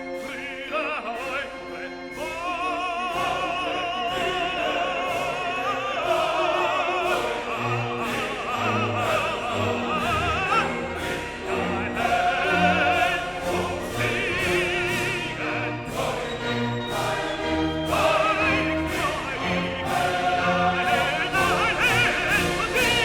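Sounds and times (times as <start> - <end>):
operatic singing with orchestra: 0.0 - 23.0
sharp rhythmic hits: 1.2 - 23.0.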